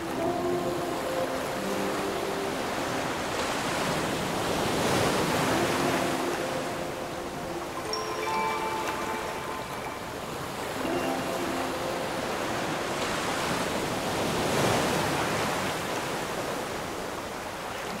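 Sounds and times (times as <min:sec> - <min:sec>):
sea waves washing: 0:00.0 - 0:18.0.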